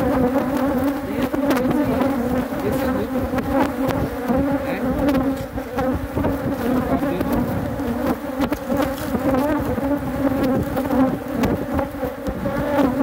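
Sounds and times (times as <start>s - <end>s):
hive frames knocking: 0.0s - 13.0s
honey bees buzzing: 0.0s - 13.0s.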